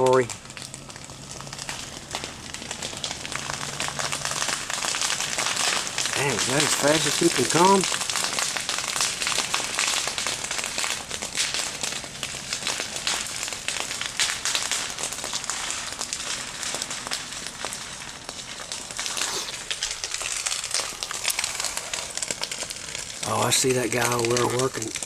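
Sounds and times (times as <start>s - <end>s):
fire crackling and popping: 0.0s - 25.0s
fire hissing: 0.0s - 25.0s.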